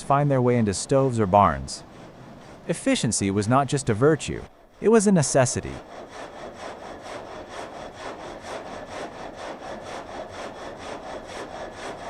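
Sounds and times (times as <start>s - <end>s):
saw cutting through wood: 0.4s - 12.0s.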